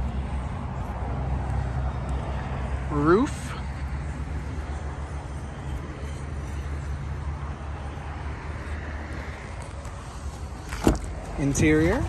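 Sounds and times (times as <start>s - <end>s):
low vehicle rumble: 0.0s - 12.0s.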